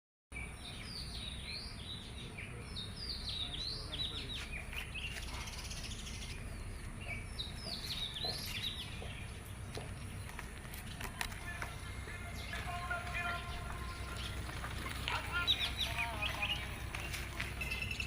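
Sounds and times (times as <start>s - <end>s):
small birds chirping: 0.3s - 18.0s.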